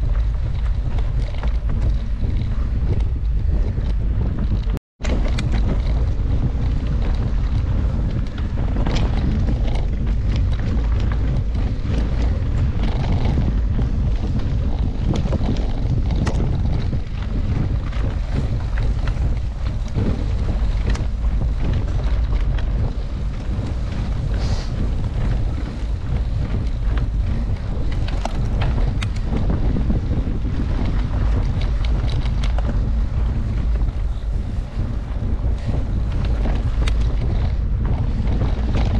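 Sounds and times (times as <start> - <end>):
bike clicking and rattling: 0.0 - 38.9
wind buffeting microphone: 0.0 - 38.9.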